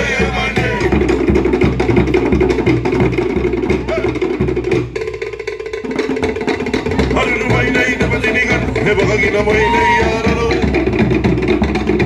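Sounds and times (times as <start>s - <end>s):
deep bass drum: 0.0s - 12.0s
wooden slit drums: 0.0s - 12.0s.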